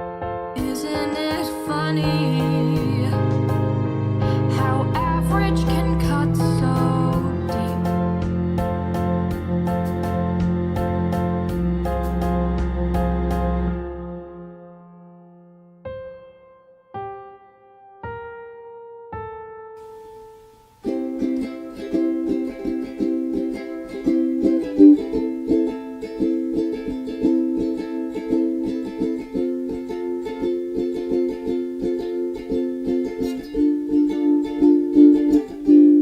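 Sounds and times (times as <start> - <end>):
piano note: 0.0 - 29.7
ukulele strumming chords: 0.6 - 14.7, 19.8 - 36.0.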